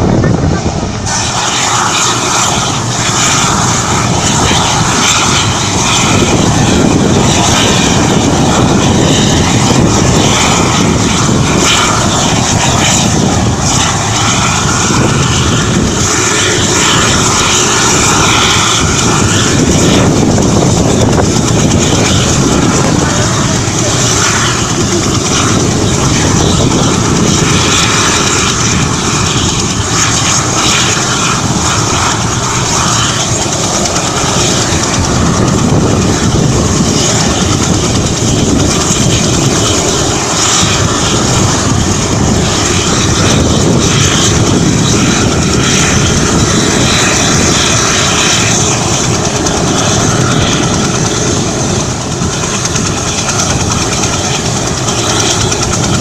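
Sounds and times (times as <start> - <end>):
helicopter turbine and rotor noise: 0.0 - 56.0.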